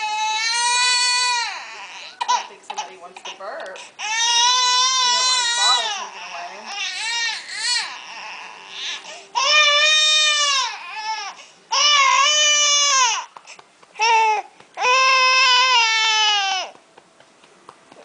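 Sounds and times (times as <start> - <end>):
infant crying: 0.0 - 13.4, 14.0 - 16.8.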